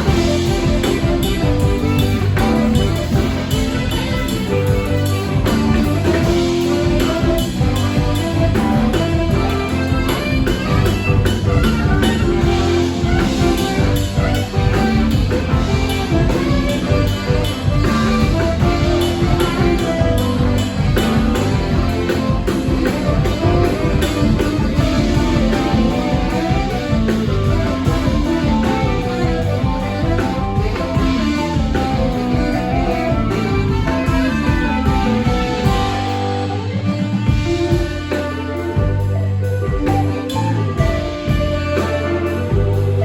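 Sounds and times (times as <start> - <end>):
bass guitar: 0.0 - 43.0
drum kit: 0.0 - 43.0
electric guitar: 0.0 - 43.0.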